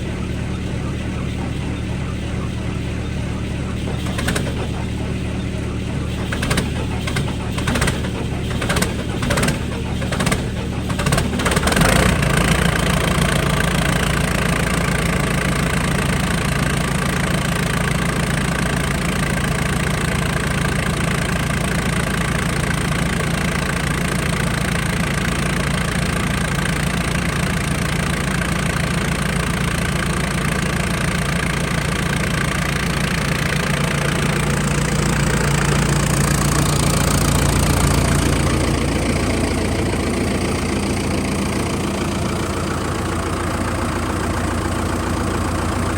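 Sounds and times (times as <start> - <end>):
heavy equipment engine idling: 0.0 - 45.9.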